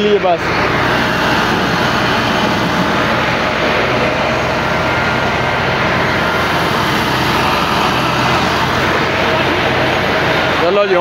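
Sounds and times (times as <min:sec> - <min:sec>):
tractor diesel engines straining: 0:00.0 - 0:11.0.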